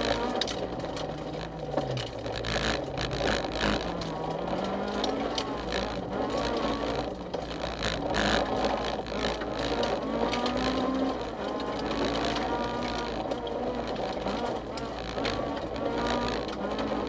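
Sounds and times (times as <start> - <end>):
car engine revving: 0.0 - 17.0
road noise: 0.0 - 17.0.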